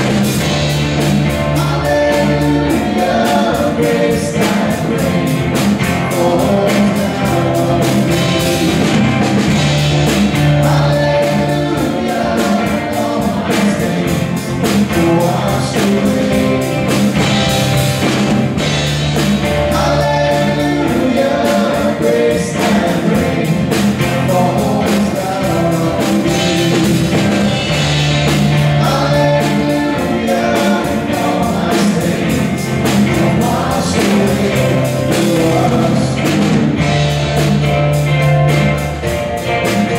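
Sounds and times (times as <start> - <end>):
person singing lead vocals: 0.0 - 38.0
drums: 0.0 - 39.9
keyboard: 0.0 - 39.9.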